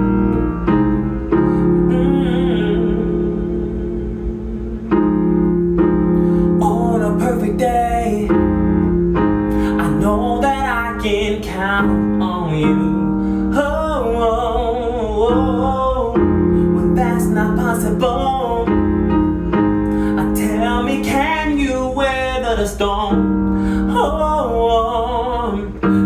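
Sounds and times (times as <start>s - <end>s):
piano ballad chords: 0.0s - 26.0s
person singing: 1.0s - 5.4s, 6.5s - 8.5s, 9.5s - 26.0s.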